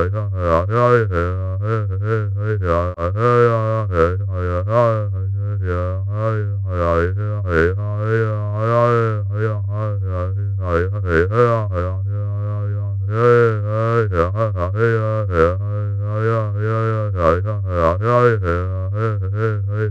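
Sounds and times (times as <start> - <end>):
robotic electronic voice-like tone: 0.0 - 19.9
steady low buzz: 0.0 - 19.9.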